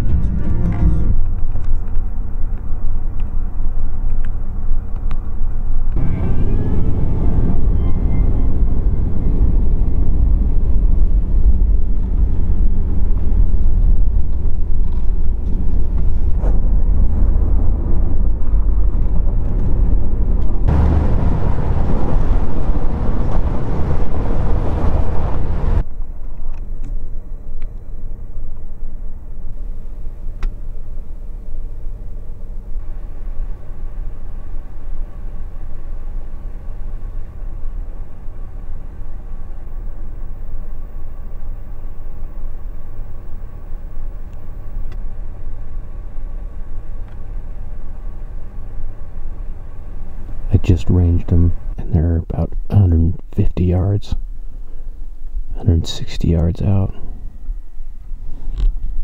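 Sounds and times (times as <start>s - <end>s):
truck engine and tyres rumbling: 0.0s - 59.0s.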